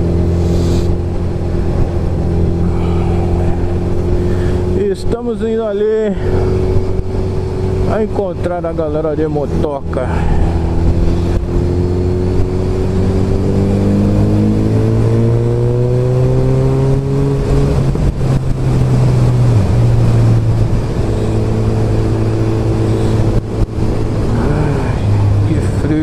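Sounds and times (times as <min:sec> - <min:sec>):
wind rush: 0:00.0 - 0:07.9, 0:09.8 - 0:26.0
motorcycle engine: 0:00.0 - 0:26.0.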